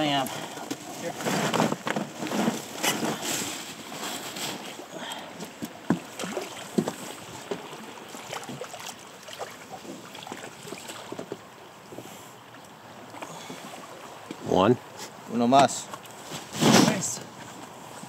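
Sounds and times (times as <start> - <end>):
river water: 0.0 - 18.0
wind: 0.0 - 18.0.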